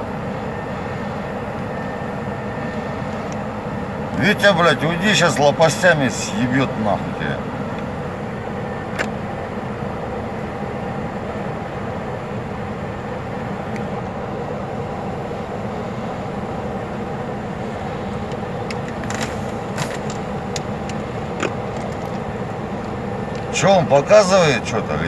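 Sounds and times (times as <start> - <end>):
helicopter idling: 0.0 - 25.0
truck idling: 0.0 - 25.0.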